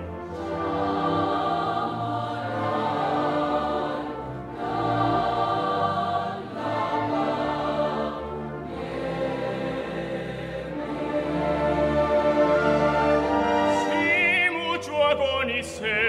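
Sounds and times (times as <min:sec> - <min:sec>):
mixed choir singing: 0:00.0 - 0:14.3
orchestra with strings: 0:00.0 - 0:16.0.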